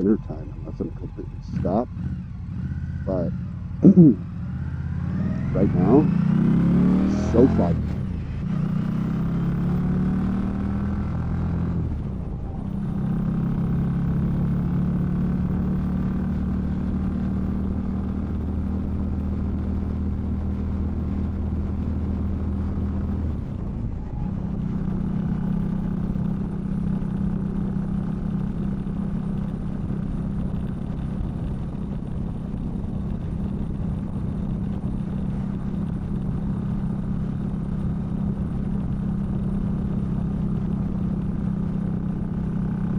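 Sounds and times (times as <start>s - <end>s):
muffled motorcycle engine running: 0.0s - 42.9s.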